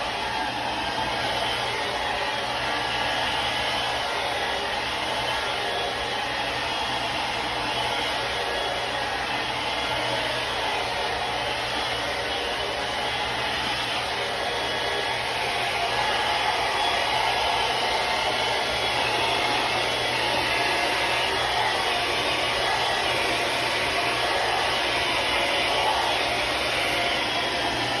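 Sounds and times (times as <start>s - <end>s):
hair dryer running: 0.0s - 28.0s.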